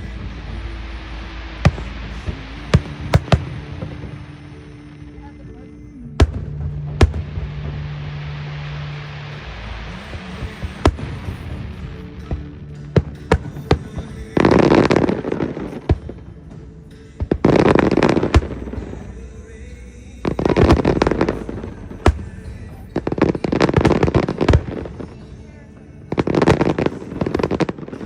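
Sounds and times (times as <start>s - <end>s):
firework shells booming: 0.0s - 5.0s, 6.2s - 19.5s, 20.3s - 25.3s
crackling firework bursts: 0.0s - 28.0s.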